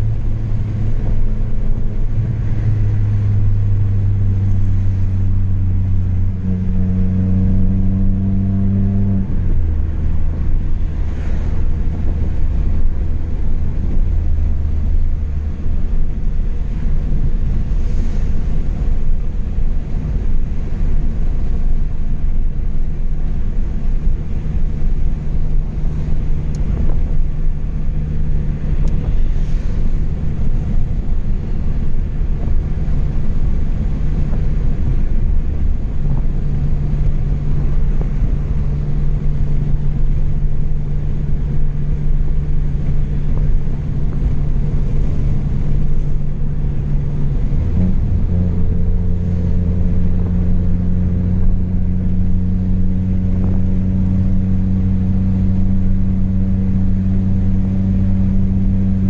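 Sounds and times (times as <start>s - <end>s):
loud car engine drone: 0.0s - 59.0s.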